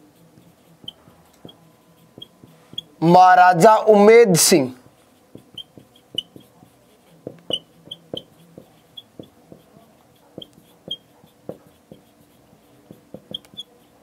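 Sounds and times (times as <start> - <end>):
marker pen squeaking on whiteboard: 0.0 - 14.0.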